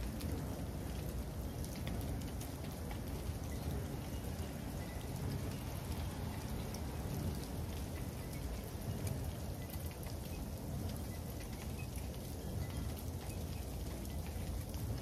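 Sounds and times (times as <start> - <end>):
freezing rain ticking on hard surfaces: 0.0 - 15.0.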